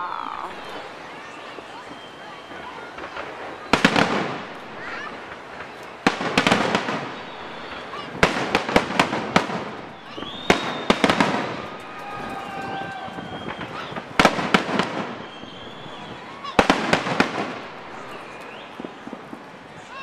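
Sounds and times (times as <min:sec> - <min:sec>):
fireworks bursting with bangs: 0:00.0 - 0:20.0.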